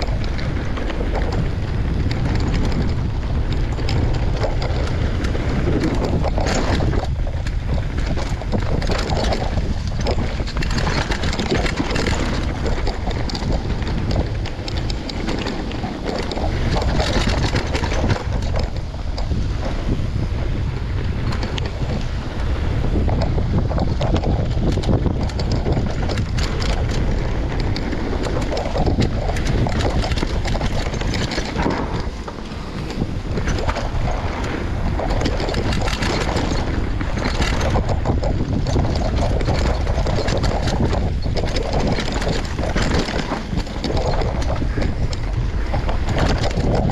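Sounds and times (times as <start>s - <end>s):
bike clattering over roots and rocks: 0.0s - 46.9s
bike tyres rumbling on dirt: 0.0s - 46.9s
wind rushing over microphone: 0.0s - 46.9s.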